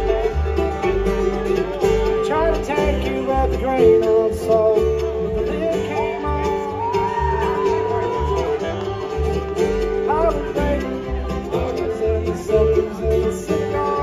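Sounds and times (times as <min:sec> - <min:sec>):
acoustic guitar: 0:00.0 - 0:14.0
banjo: 0:00.0 - 0:14.0
fiddle: 0:00.0 - 0:14.0
upright bass: 0:00.0 - 0:14.0.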